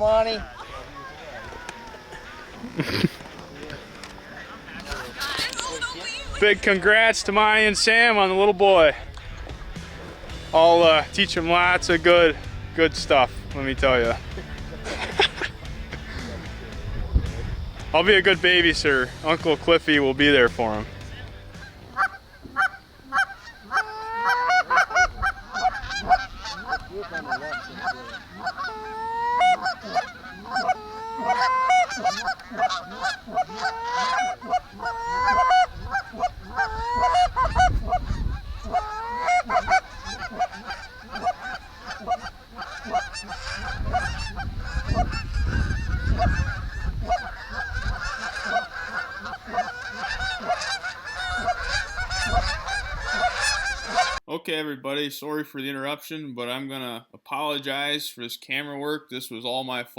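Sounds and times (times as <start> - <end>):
geese honking: 0.0 - 54.2.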